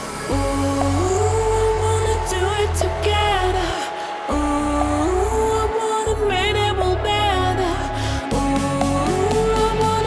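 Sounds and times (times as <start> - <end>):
background song: 0.0 - 10.0.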